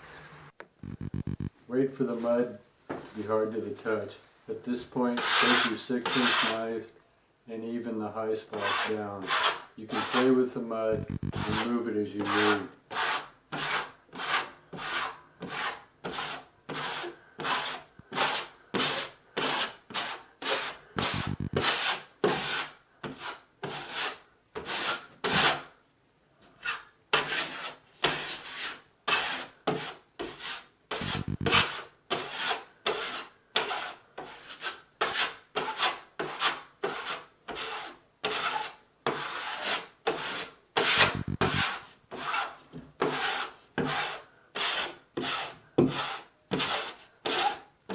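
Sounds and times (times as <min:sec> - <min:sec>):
drywall knife scraping compound: 0:04.7 - 0:06.8, 0:08.4 - 0:10.7, 0:11.3 - 0:25.8, 0:26.4 - 0:47.9.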